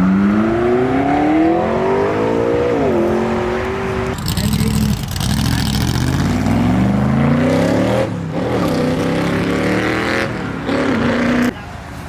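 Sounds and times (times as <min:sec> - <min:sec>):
car engine accelerating hard: 0:00.0 - 0:11.5.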